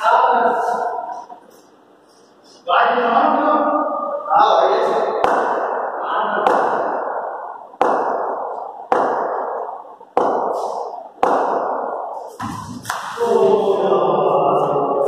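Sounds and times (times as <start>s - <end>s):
sharp knocks echoing in a hall: 0.0s - 2.2s, 3.2s - 15.0s.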